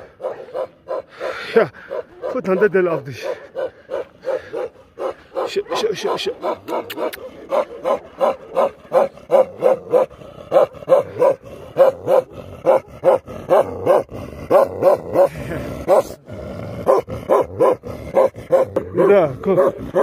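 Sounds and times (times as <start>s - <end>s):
dog barking: 0.0s - 15.3s, 15.9s - 16.2s, 16.8s - 20.0s.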